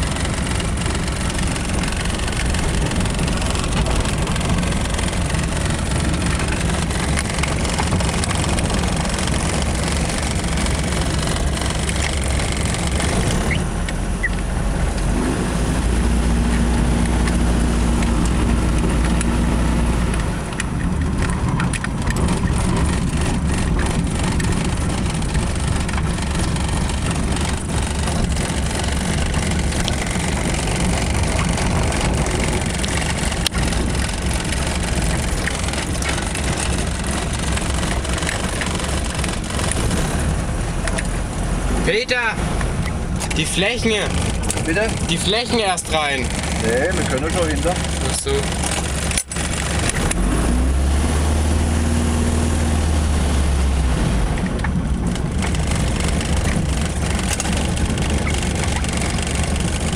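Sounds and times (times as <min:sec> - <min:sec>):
light aircraft engine running: 0:00.0 - 0:50.5, 0:53.0 - 0:59.9
wheel rumbling on tarmac: 0:00.0 - 0:59.9.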